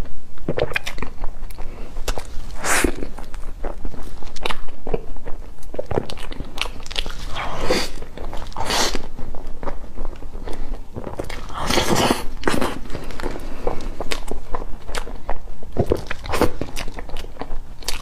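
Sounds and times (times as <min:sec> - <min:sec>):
chewing and lip-smacking: 0:00.0 - 0:18.0.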